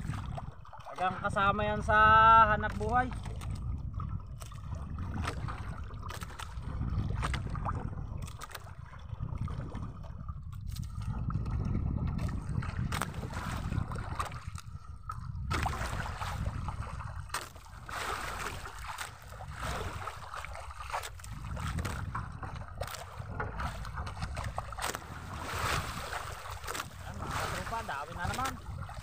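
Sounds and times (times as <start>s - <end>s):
water sloshing against hull: 0.0s - 29.0s
wind buffeting microphone: 0.0s - 29.0s.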